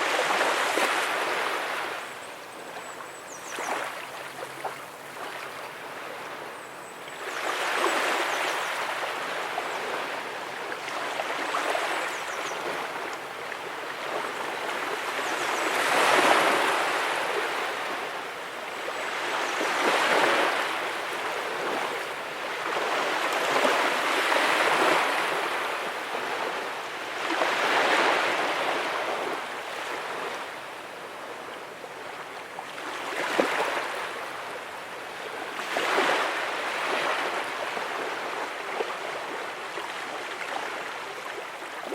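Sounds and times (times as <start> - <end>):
small waves breaking on beach: 0.0 - 41.9.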